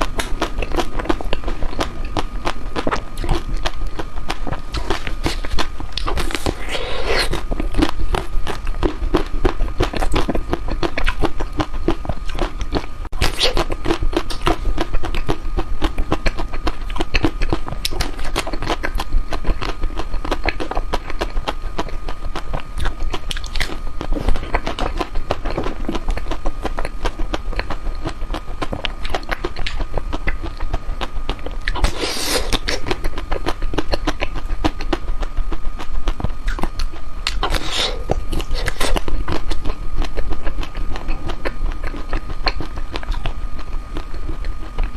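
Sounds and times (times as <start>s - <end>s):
ice cream chewing and crunching: 0.0s - 44.9s.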